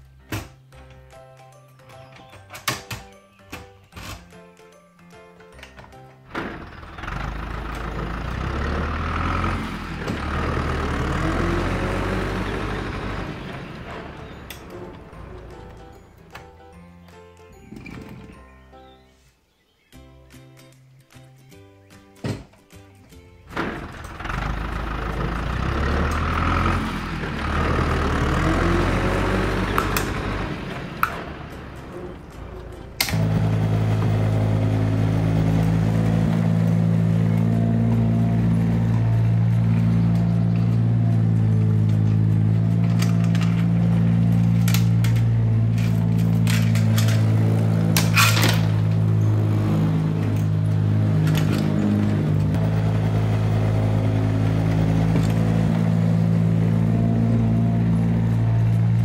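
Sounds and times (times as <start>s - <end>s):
tractor engine rumble: 1.8s - 18.6s, 22.4s - 59.0s.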